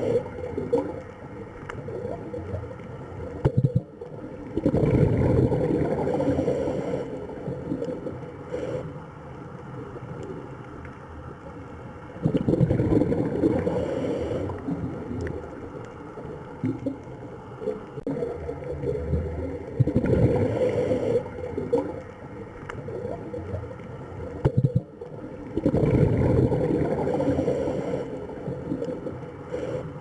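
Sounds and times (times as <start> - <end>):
water sloshing and gurgling: 0.0 - 30.0.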